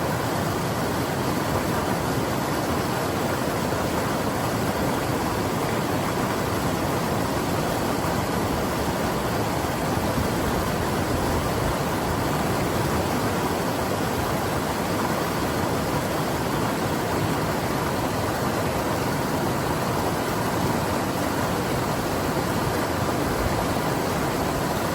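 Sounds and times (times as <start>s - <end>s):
river rushing over rocks: 0.0s - 24.9s.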